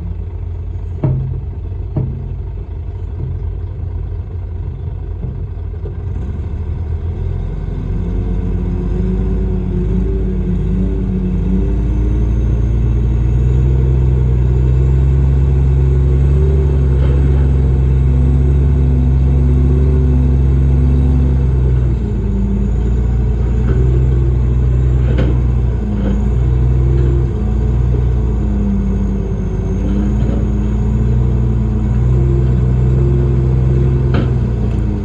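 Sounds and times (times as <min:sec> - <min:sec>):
diesel engine running hard: 0:00.0 - 0:35.0.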